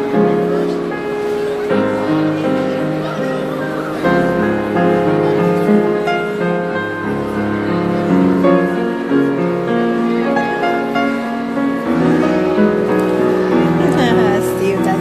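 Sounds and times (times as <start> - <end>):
live piano music: 0.0 - 15.0.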